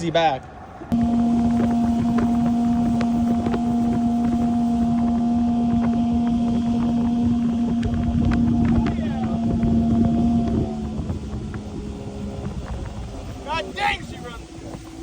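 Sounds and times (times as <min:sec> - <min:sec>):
wind noise: 0:00.0 - 0:15.0
outboard motor running: 0:00.6 - 0:15.0
steady hum-like tone: 0:00.7 - 0:15.0.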